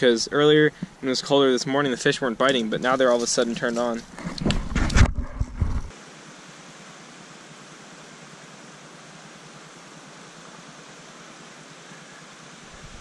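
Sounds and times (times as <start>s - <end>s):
running stream water: 0.0s - 13.0s.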